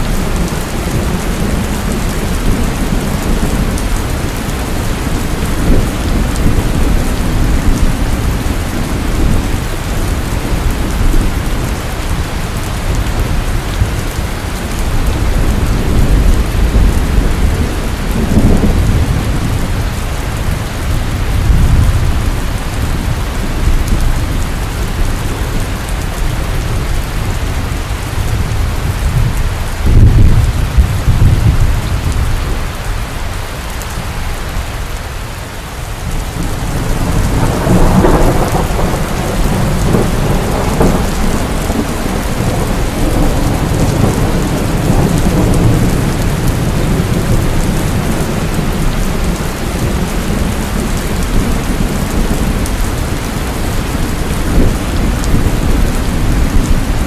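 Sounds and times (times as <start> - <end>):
thunder rumbling: 0.0 - 33.0, 35.8 - 57.0
heavy rain falling: 0.0 - 57.0.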